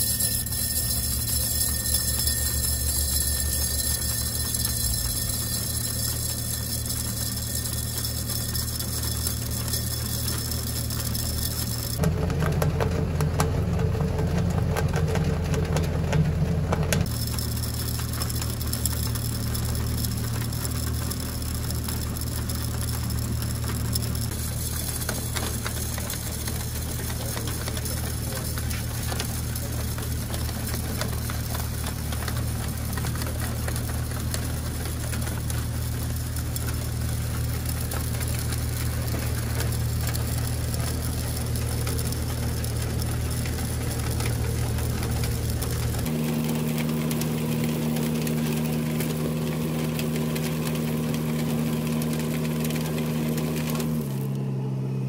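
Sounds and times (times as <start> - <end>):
machine drive humming: 0.0 - 55.0.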